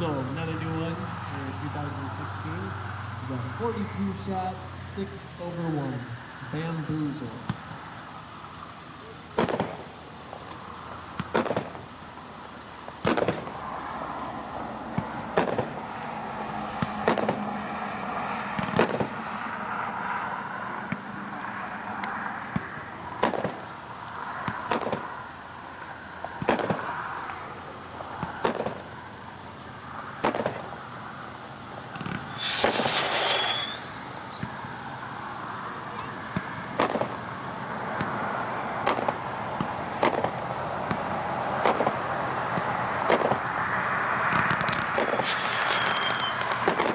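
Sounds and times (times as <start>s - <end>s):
distant fireworks reports: 0.0s - 46.9s
fireworks hissing and crackling: 0.0s - 46.9s.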